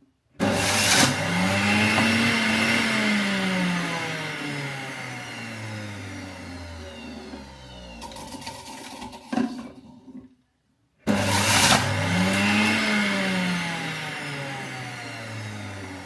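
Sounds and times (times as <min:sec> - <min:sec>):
electric appliance motor running: 0:00.4 - 0:09.0, 0:11.1 - 0:16.0.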